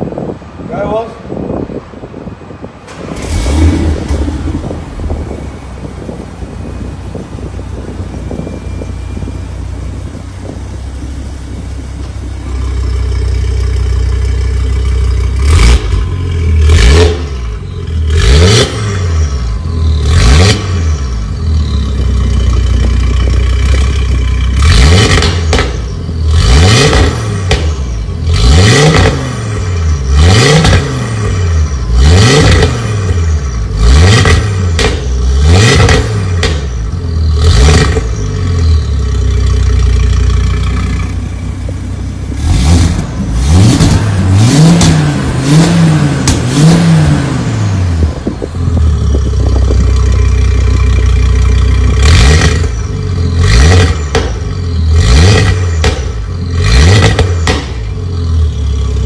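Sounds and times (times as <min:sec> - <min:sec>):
car engine idling: 0:01.4 - 0:28.5, 0:34.7 - 0:59.0
car engine revving: 0:02.9 - 0:59.0.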